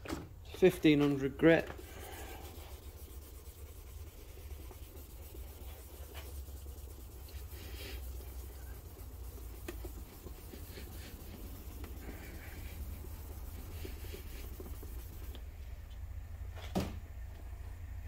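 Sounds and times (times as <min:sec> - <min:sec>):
sandpaper rubbing by hand: 0:00.9 - 0:15.4.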